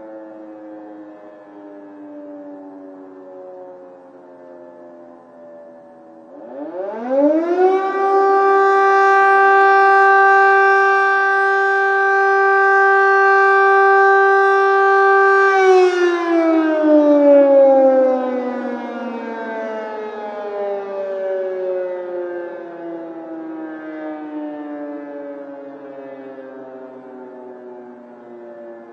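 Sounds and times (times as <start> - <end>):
air raid siren wailing: 0.0 - 28.9.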